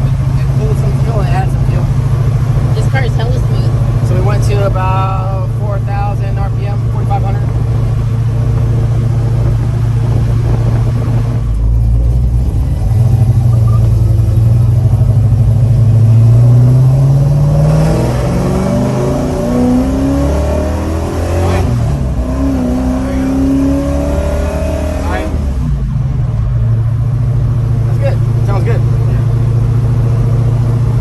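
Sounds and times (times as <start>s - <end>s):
car engine accelerating: 0.0s - 31.0s.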